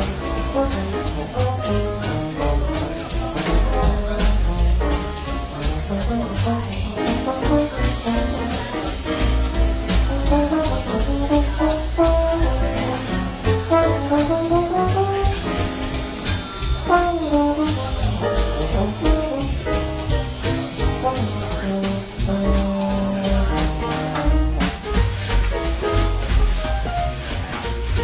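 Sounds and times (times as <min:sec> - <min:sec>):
bass line: 0:00.0 - 0:28.0
jazzy electronic keyboard tune: 0:00.0 - 0:28.0
steady backing beat: 0:00.0 - 0:28.0.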